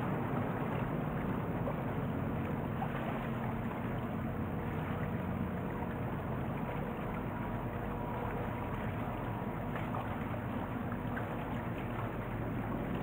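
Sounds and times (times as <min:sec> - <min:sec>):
ship engine low rumble: 0:00.0 - 0:13.0.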